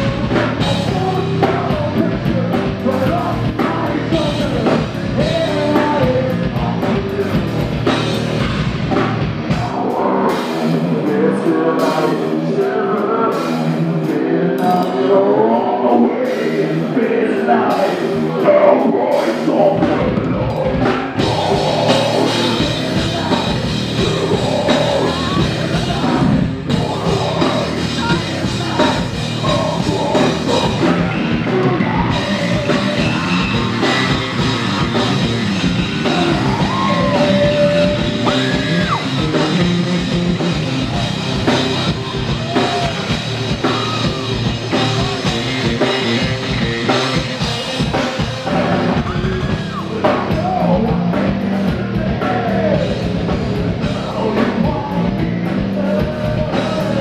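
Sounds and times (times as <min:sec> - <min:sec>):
person singing: 0:00.0 - 0:08.4, 0:09.5 - 0:57.0
live heavy rock band: 0:00.0 - 0:57.0.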